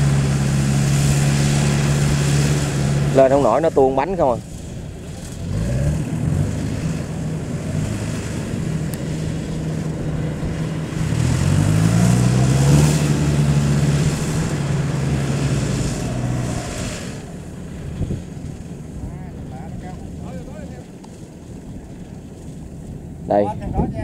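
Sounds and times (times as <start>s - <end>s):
tractor engine working hard: 0.0s - 23.4s.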